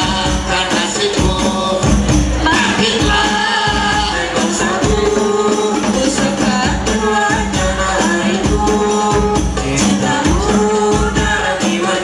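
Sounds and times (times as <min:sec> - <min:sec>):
man singing into a microphone: 0:00.0 - 0:12.0
rhythmic tambourine percussion: 0:00.0 - 0:12.0.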